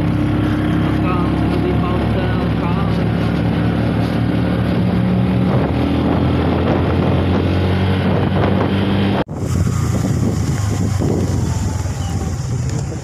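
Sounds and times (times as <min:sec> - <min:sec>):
motorcycle engine running: 0:00.0 - 0:13.0
wind noise on microphone: 0:02.2 - 0:13.0.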